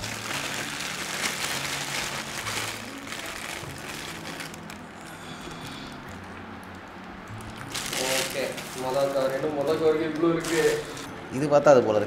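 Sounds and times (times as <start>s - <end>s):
foil bag crinkling: 0.0s - 6.3s, 7.3s - 11.1s.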